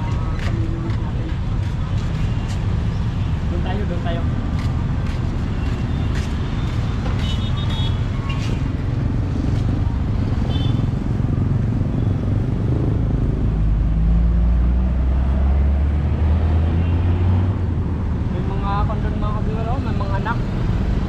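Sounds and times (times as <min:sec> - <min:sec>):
traffic engines rumbling: 0:00.0 - 0:21.0.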